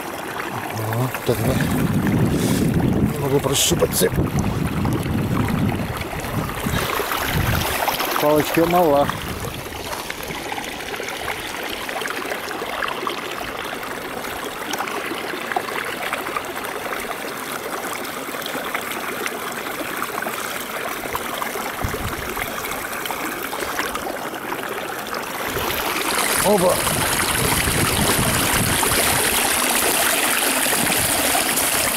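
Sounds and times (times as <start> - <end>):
creek water trickling: 0.0 - 31.9.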